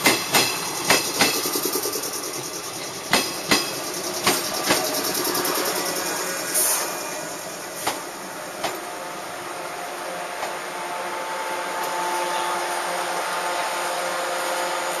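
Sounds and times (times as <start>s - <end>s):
train machinery whirring: 0.0s - 15.0s.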